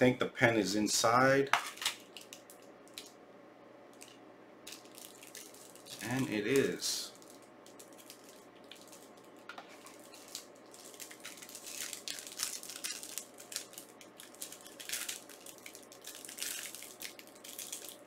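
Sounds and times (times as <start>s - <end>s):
packaging crinkling and rustling: 1.6s - 3.1s, 4.0s - 18.0s.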